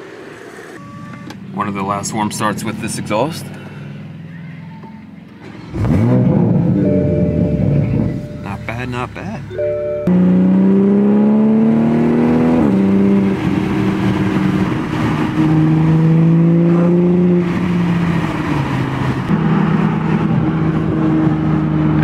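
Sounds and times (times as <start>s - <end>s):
car engine accelerating: 1.5s - 22.0s.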